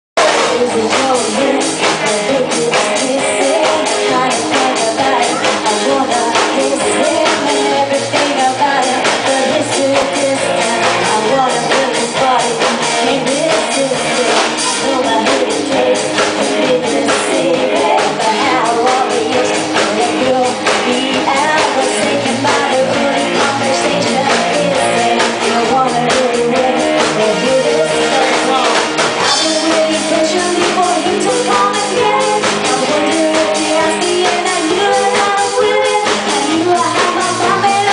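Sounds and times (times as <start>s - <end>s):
drums: 0.2s - 37.9s
guitar: 0.2s - 37.9s
live band playing pop-rock: 0.2s - 37.9s.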